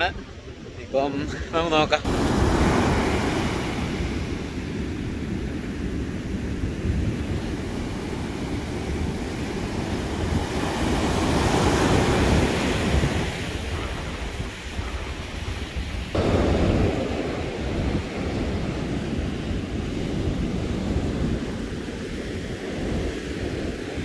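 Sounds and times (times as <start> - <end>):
wind buffeting microphone: 0.0 - 24.0
surf breaking on beach: 1.6 - 24.0.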